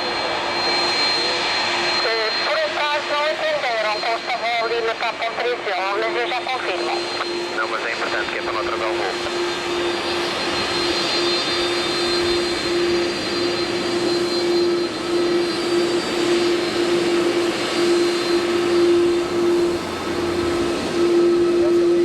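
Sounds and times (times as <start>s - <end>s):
jet aircraft engines running: 0.0s - 22.0s.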